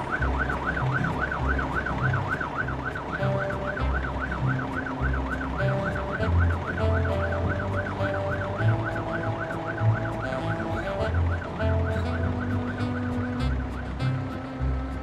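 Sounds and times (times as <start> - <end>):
background music with bass: 0.0 - 15.0
cartoon siren rising and falling: 0.0 - 15.0.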